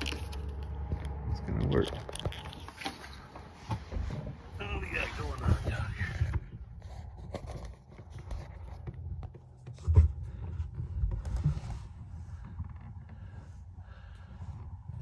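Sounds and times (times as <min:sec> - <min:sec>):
knocks and handling noise: 0:00.0 - 0:13.4.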